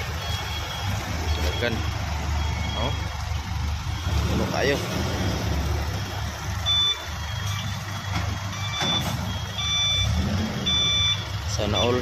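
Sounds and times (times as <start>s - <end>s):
truck engines rumbling: 0.0s - 12.0s
truck reversing alarm beeps: 0.0s - 12.0s.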